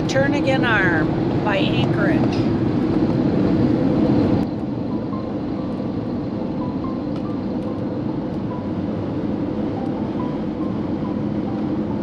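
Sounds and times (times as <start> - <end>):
motorhome road and engine noise: 0.0 - 12.0.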